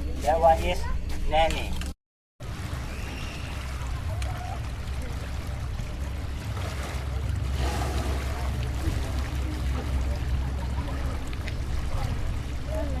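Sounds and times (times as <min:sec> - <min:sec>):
low rumble: 0:02.4 - 0:13.0.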